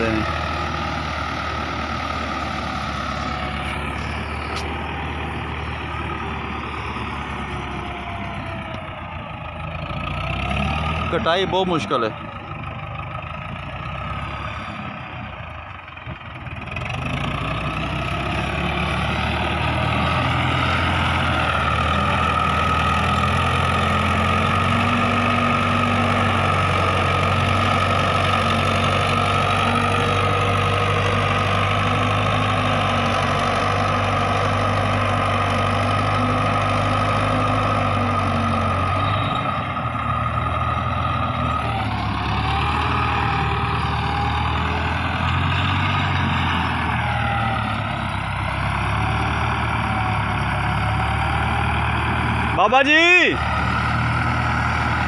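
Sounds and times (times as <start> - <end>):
tractor diesel engine labouring: 0.0 - 55.0.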